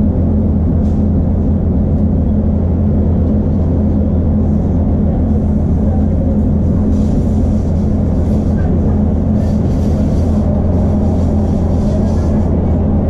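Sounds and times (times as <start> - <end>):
train diesel engine humming: 0.0 - 13.0
train running gear rumble: 0.0 - 13.0.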